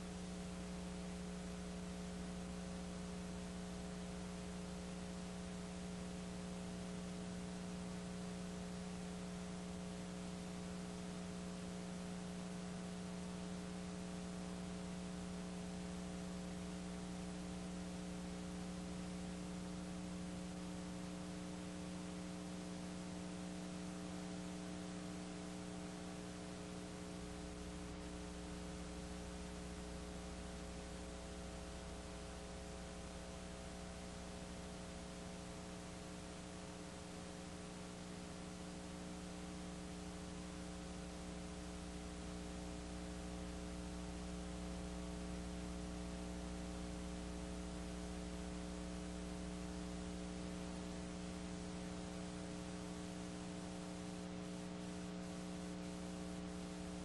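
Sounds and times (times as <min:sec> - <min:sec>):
constant hiss: 0:00.0 - 0:57.0
electrical mains hum: 0:00.0 - 0:57.0.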